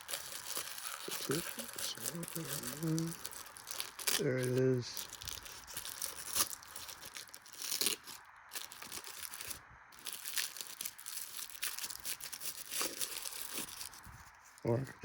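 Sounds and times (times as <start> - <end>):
tape and packaging tearing: 0.0 - 14.1.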